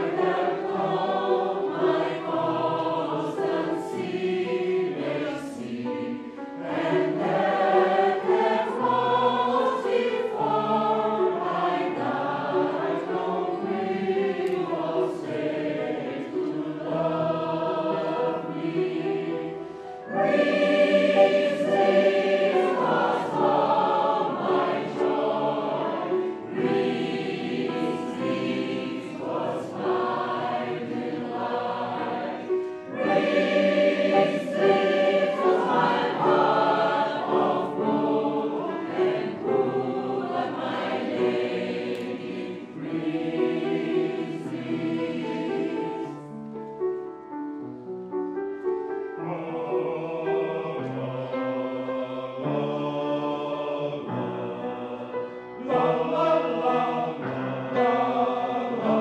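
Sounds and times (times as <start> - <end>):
mixed choir singing in harmony: 0.0 - 46.6, 48.8 - 59.0.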